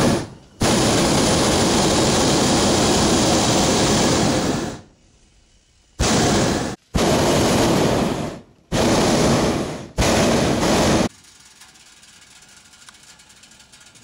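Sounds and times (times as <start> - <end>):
propane burner blasts: 0.0 - 13.0.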